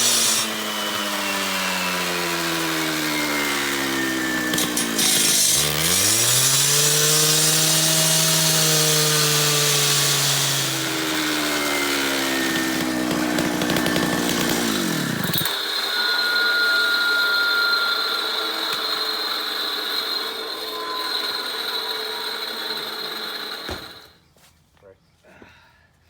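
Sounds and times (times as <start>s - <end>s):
power saw cutting concrete: 0.0s - 24.1s.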